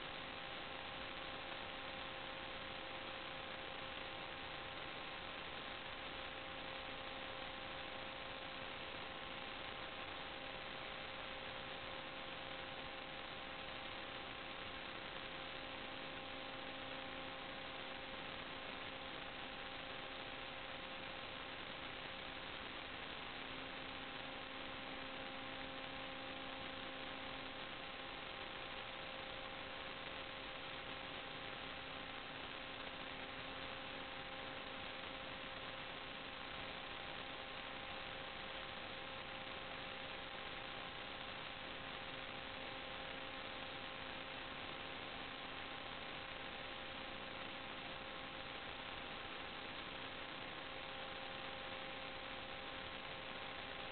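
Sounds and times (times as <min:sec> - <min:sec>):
electrical hiss: 0:00.0 - 0:53.9
faint electrical hum: 0:00.0 - 0:53.9.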